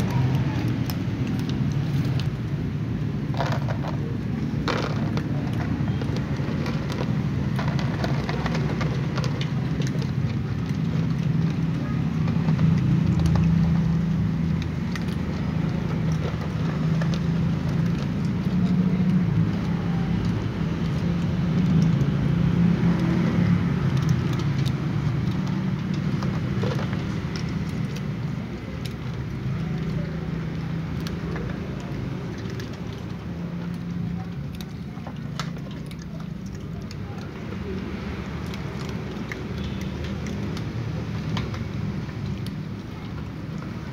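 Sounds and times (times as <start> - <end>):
cats crunching dry kibble: 0.0 - 43.9.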